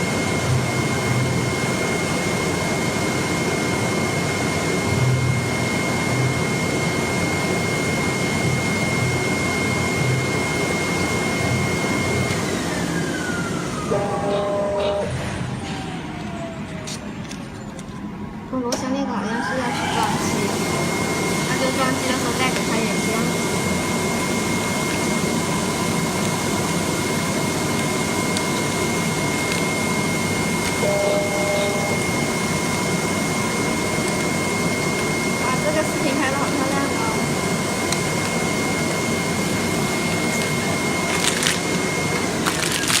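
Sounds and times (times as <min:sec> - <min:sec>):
thin high whine: 0:00.0 - 0:16.6, 0:19.6 - 0:43.0
cutting machine blower rush: 0:00.0 - 0:16.9, 0:19.6 - 0:43.0.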